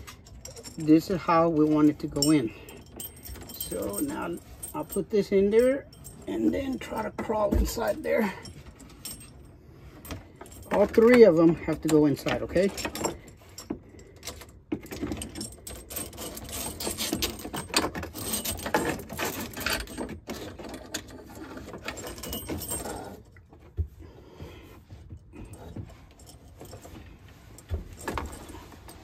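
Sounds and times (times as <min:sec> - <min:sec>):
hoses clinking and rattling: 0:00.0 - 0:29.0.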